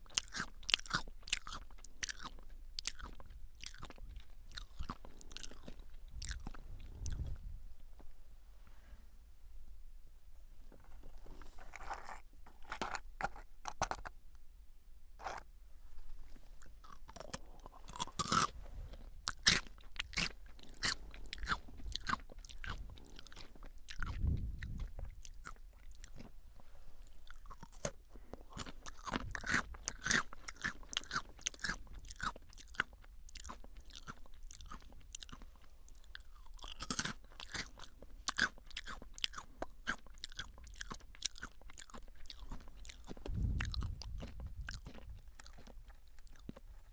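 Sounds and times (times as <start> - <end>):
crunchy chewing: 0.0 - 8.1, 10.7 - 14.1, 15.2 - 15.5, 16.2 - 46.9.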